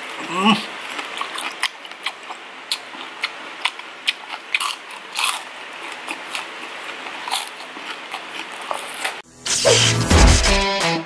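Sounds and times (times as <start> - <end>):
crunching bites and chewing: 0.0 - 9.2.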